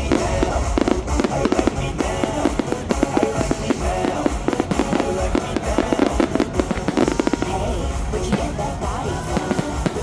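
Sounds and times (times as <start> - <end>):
fireworks bursting: 0.0 - 10.0
music with drum beat: 0.0 - 10.0.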